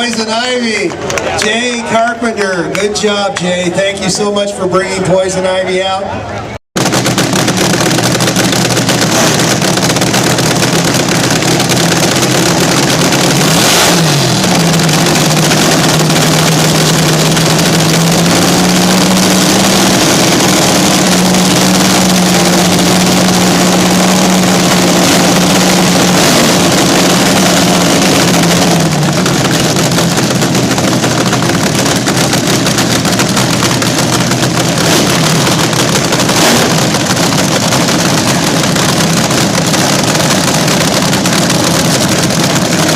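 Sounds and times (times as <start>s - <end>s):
dragster engine revving: 6.8s - 42.9s.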